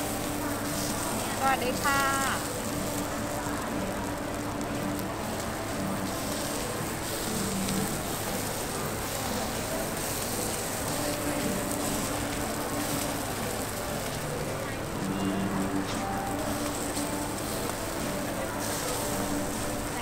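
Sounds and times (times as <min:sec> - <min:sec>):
faint voices: 0:00.0 - 0:20.0
indoor market hiss: 0:00.0 - 0:20.0.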